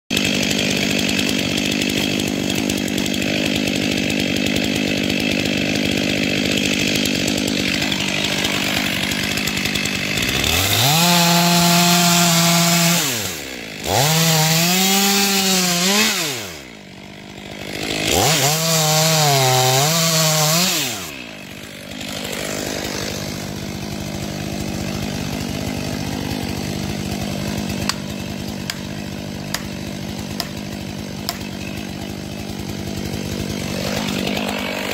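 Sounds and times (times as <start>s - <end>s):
chainsaw cutting at full throttle: 0.1s - 34.9s
chainsaw engine drone: 0.1s - 34.9s.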